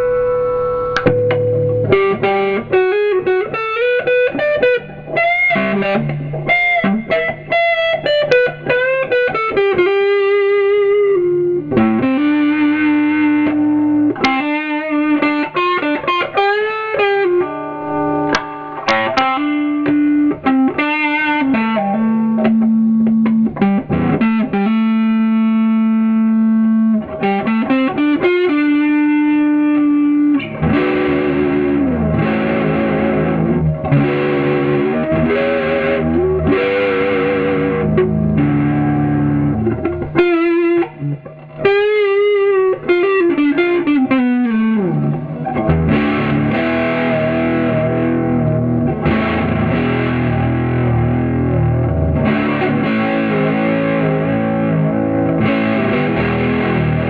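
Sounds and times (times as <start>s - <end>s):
electric guitar through amplifier: 0.0s - 57.0s.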